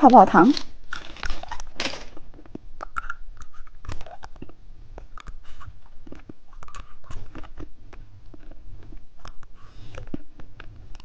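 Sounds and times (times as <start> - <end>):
plastic candy packaging rustling: 0.0 - 11.0.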